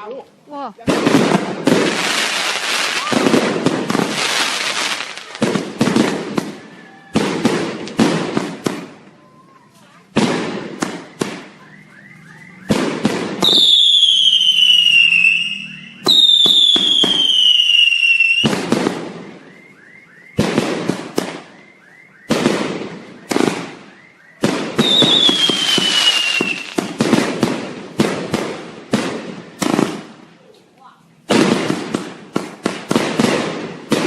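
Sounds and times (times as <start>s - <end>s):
fireworks banging: 0.0s - 34.0s
whistling fireworks: 0.9s - 30.3s, 31.2s - 34.0s.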